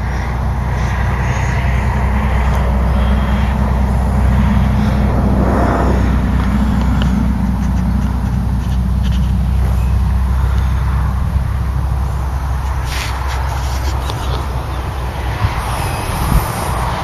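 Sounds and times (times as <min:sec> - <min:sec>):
motorcycle engine running: 0:00.0 - 0:17.0
rushing noise: 0:00.0 - 0:17.0.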